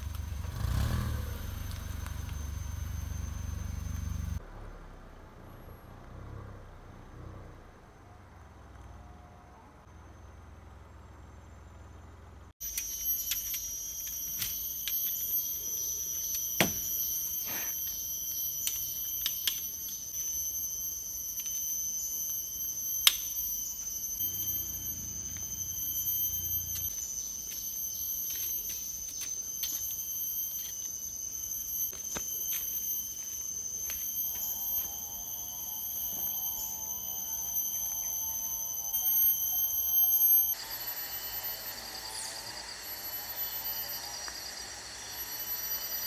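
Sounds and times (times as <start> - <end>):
cicadas droning: 0.0 - 46.0.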